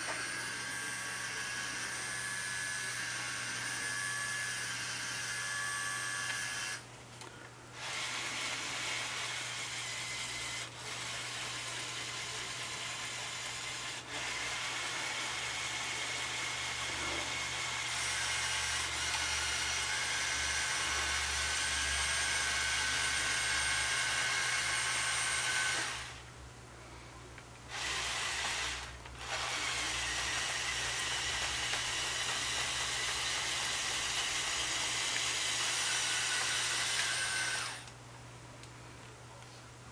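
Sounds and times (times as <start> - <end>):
toy motors and gears whirring: 0.0 - 6.8, 7.8 - 26.2, 27.7 - 38.0.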